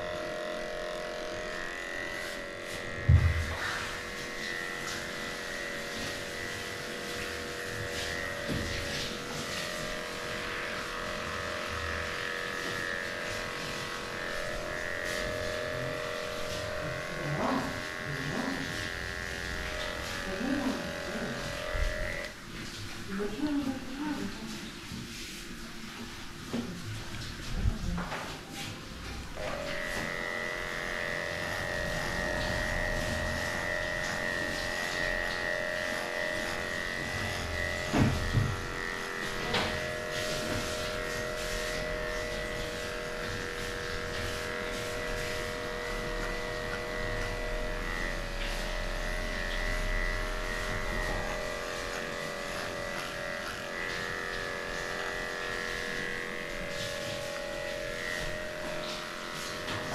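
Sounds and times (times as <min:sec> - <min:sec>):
electric clipper humming: 0:00.0 - 0:59.9.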